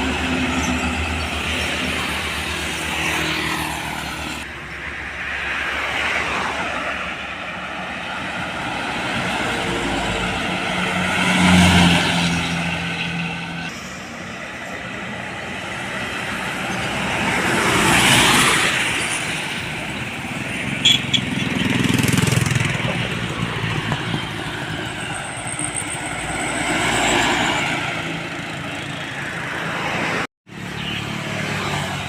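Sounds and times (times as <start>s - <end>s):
heavy vehicles driving past: 0.0s - 32.0s.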